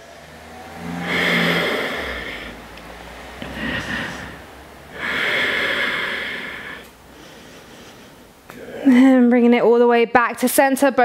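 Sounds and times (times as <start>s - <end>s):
person breathing: 0.0s - 9.0s.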